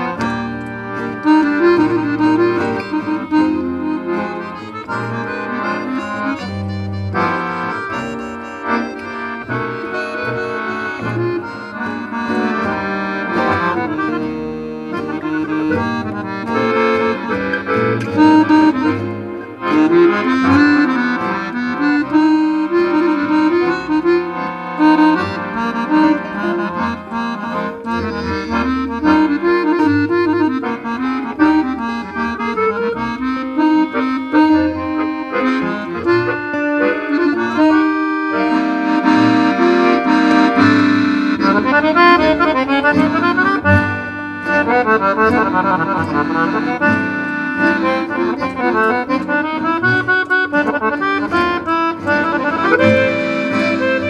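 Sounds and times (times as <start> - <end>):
accordion jazz ballad: 0.0 - 54.0
acoustic guitar strumming: 0.0 - 54.0.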